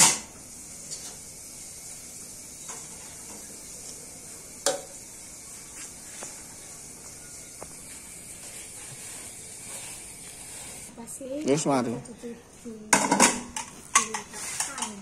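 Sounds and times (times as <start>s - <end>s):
food sizzling: 0.0s - 11.1s, 13.2s - 15.0s.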